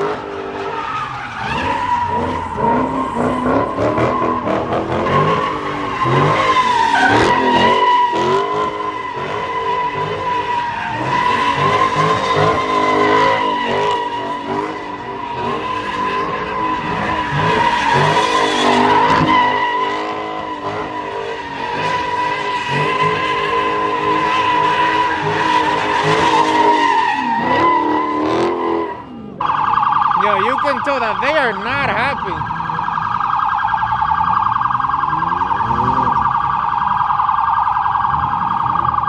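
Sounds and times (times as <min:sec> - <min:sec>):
car engine revving: 0:00.0 - 0:39.0
police siren warbling: 0:00.0 - 0:39.0.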